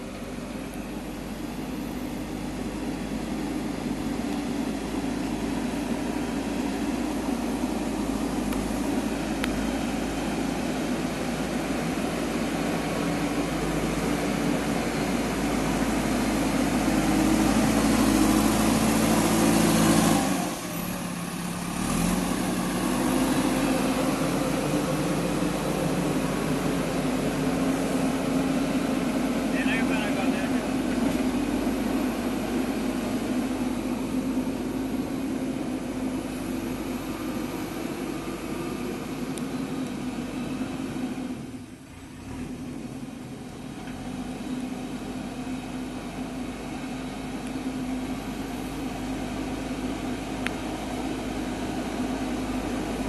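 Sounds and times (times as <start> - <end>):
backhoe diesel engine under load: 0.0 - 53.0.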